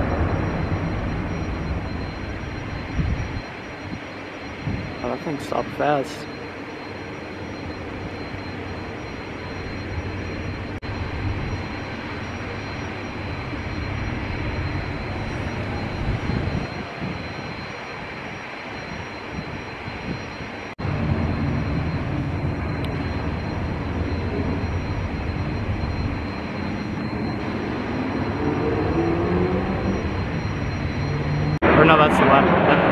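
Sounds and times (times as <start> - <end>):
jet engines rumbling with whine: 0.0 - 32.9.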